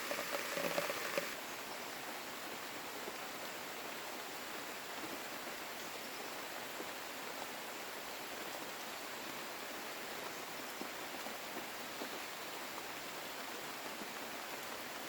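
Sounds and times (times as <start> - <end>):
hiss of falling rain: 0.0 - 15.0.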